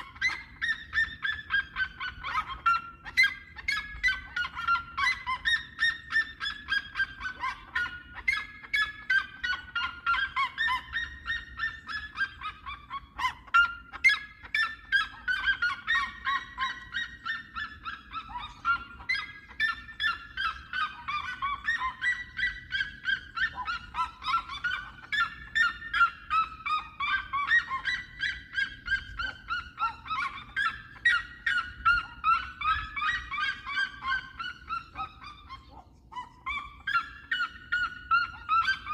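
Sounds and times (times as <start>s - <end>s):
birds yelping: 0.0s - 38.9s.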